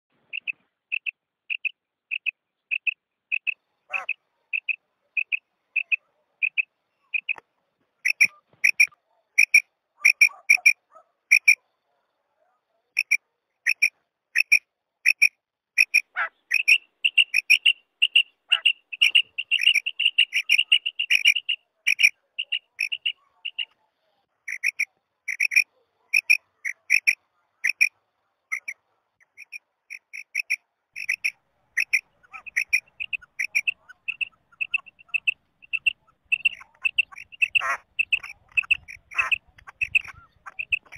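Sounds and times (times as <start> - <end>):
quail calling: 0.3 - 7.4, 8.0 - 11.6, 13.0 - 23.8, 24.5 - 27.9, 28.5 - 40.9.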